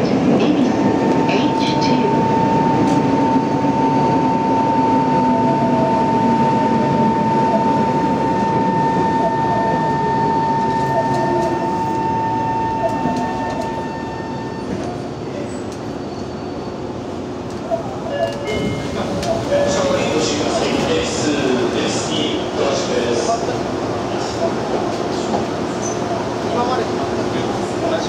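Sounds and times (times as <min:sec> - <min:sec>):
rumble of train wheels and motors: 0:00.0 - 0:28.0.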